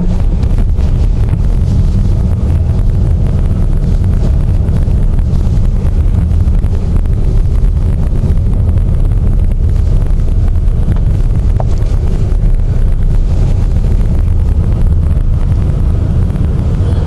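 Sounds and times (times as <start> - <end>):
car driving on snowy road: 0.0 - 17.0
wind buffeting vehicle: 0.0 - 17.0.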